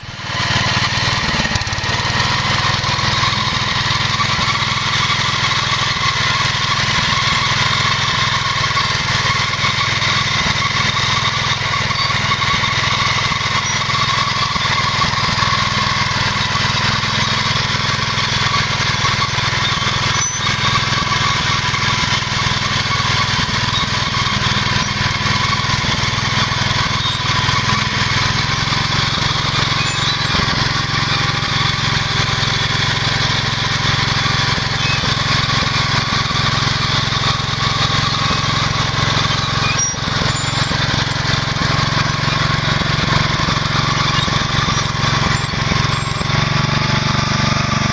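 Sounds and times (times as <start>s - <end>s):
garden tractor engine running: 0.0s - 47.9s.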